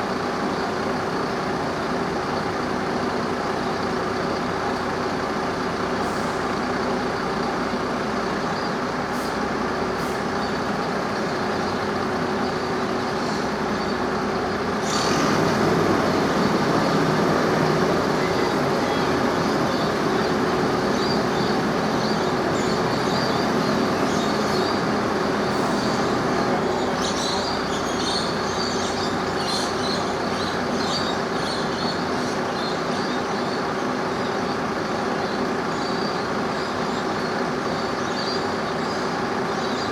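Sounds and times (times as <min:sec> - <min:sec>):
engine humming: 0:00.0 - 0:39.8.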